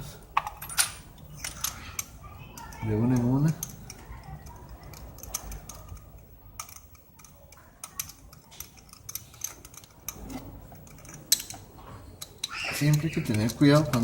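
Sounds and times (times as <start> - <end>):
hand tools clicking and clinking: 0.4 - 14.0.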